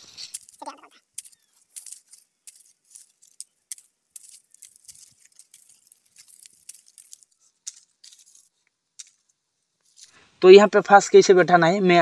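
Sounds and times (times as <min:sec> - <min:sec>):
leaves and cord rustling: 0:00.0 - 0:10.4.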